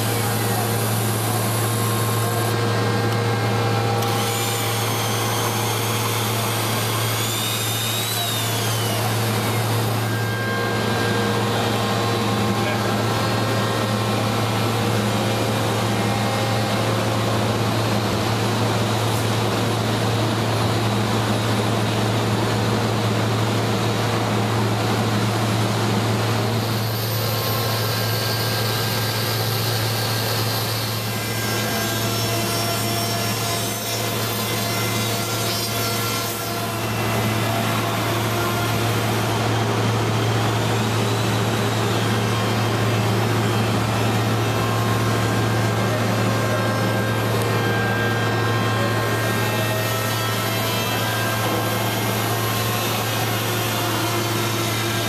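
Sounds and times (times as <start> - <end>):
machinery drone: 0.0 - 55.0.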